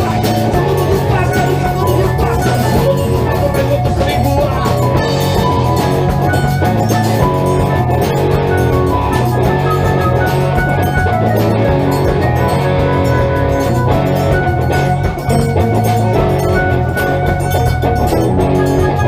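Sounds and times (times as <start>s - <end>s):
bass guitar: 0.0s - 19.0s
drum kit: 0.0s - 19.0s
guitar chords: 0.0s - 19.0s
keyboard chords: 0.0s - 19.0s.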